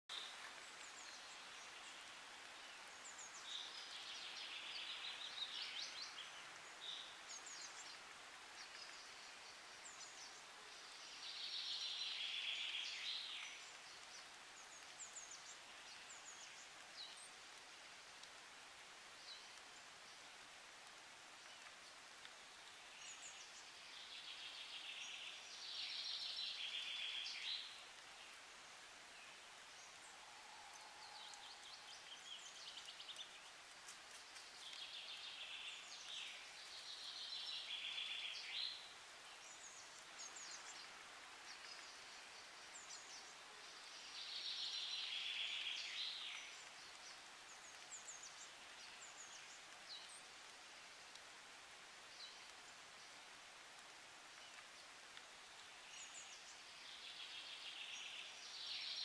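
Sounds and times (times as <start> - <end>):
faint steady hiss: 0.1 - 59.0.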